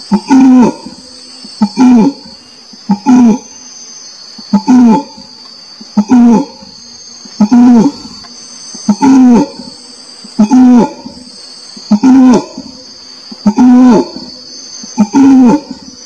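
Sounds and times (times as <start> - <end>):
orangutan calls: 0.0 - 3.7, 4.4 - 16.0
high insect drone: 0.0 - 16.0.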